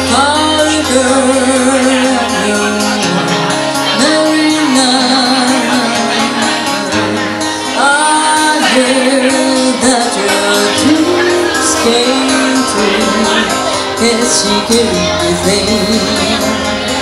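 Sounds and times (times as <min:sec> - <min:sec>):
acoustic guitar: 0:00.0 - 0:17.0
violin: 0:00.0 - 0:17.0
woman singing: 0:00.0 - 0:17.0.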